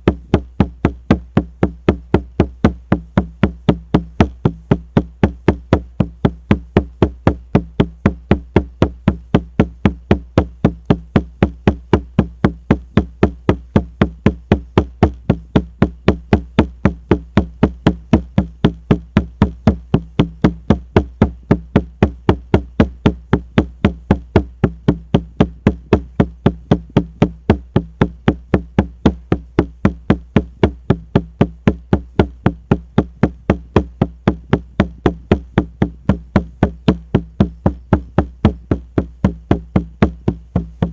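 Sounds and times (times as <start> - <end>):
frame drum booming thuds: 0.0 - 40.9.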